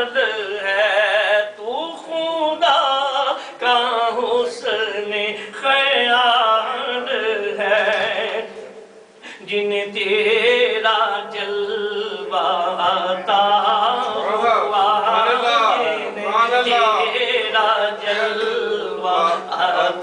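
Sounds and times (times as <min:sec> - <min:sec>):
man chanting into a microphone: 0:00.0 - 0:08.8, 0:09.4 - 0:20.0.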